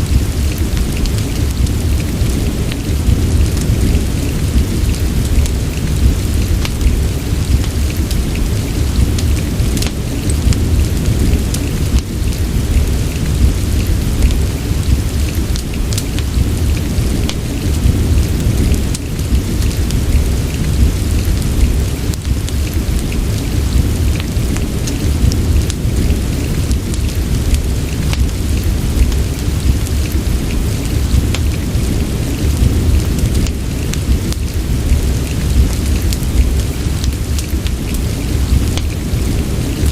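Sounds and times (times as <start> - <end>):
deep rumble: 0.0 - 39.9
fireplace crackling: 0.0 - 39.9
steady rain: 0.0 - 39.9.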